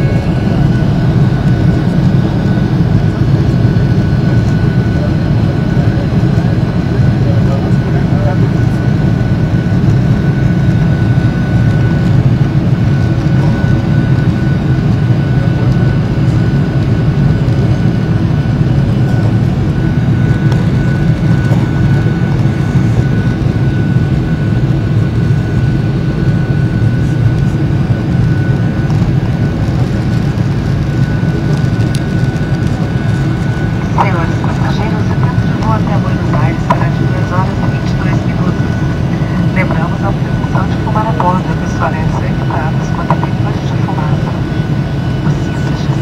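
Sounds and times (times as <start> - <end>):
jet engine low rumble: 0.0 - 46.0
thin steady engine whine: 0.0 - 46.0.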